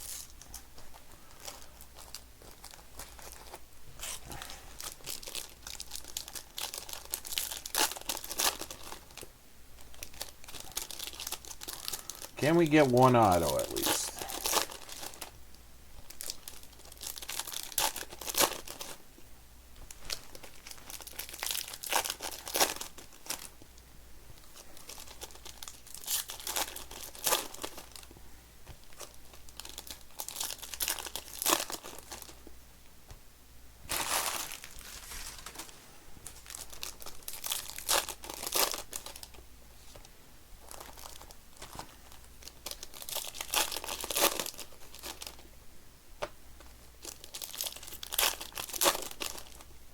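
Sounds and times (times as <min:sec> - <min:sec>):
foil wrappers tearing and crinkling: 0:00.0 - 0:12.4, 0:13.6 - 0:15.3, 0:16.0 - 0:19.0, 0:20.0 - 0:23.6, 0:24.5 - 0:28.1, 0:28.8 - 0:32.4, 0:33.9 - 0:35.7, 0:36.3 - 0:39.4, 0:40.7 - 0:45.4, 0:47.0 - 0:49.7.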